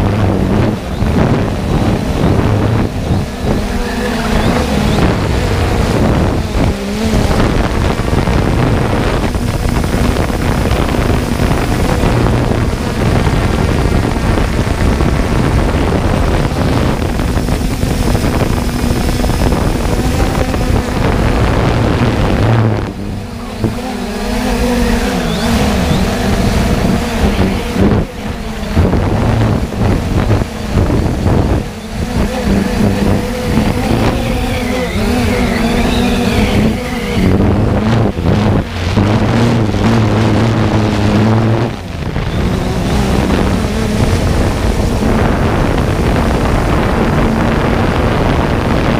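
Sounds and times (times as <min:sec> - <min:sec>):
drone motors humming: 0:00.0 - 0:48.9
rushing wind noise: 0:00.0 - 0:48.9.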